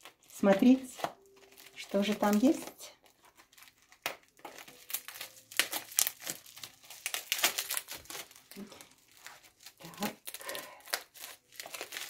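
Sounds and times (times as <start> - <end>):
bubble wrap crinkling: 0.0 - 12.0
scissors snipping plastic: 0.0 - 12.0.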